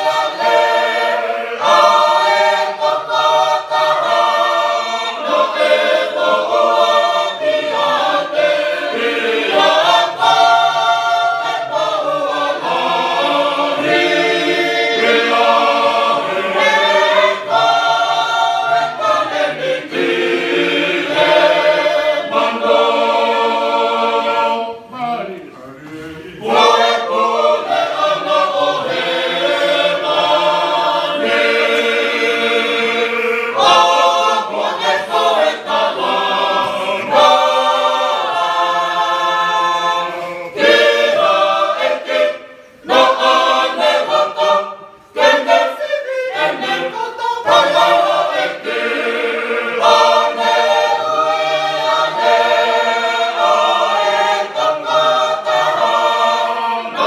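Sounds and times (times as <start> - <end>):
mixed choir singing unaccompanied: 0.0 - 57.0.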